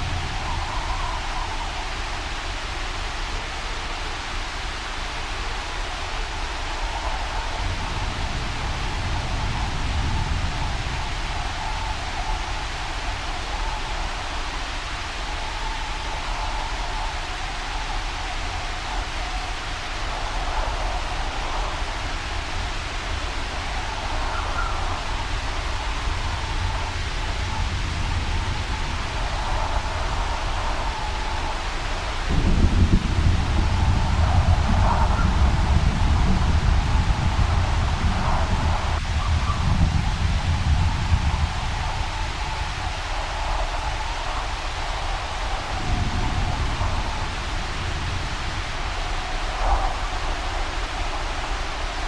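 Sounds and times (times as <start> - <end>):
rain and wind hiss: 0.0 - 52.0.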